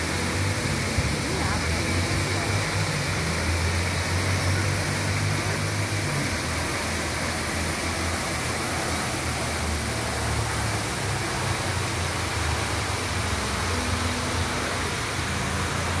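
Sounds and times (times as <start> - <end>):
fountain spray falling into pond: 0.0 - 16.0.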